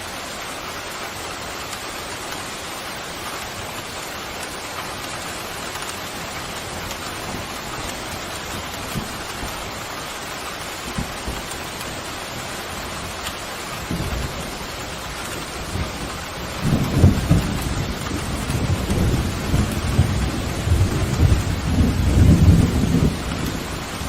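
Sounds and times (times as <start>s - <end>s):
heavy rain pattering: 0.0s - 24.0s.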